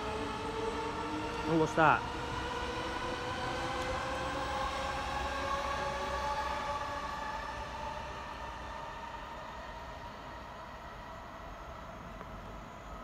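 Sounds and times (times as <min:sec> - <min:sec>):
train traction motors whining: 0:00.0 - 0:10.5
wheels rumbling on rail: 0:00.0 - 0:13.0.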